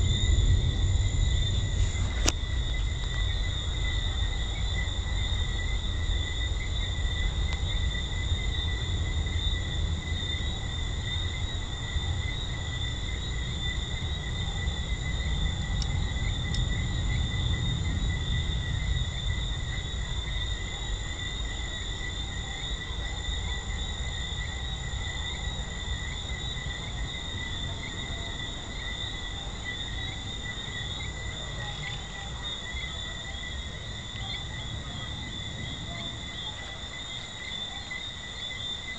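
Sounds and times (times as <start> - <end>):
low steady rumble: 0.0 - 31.4.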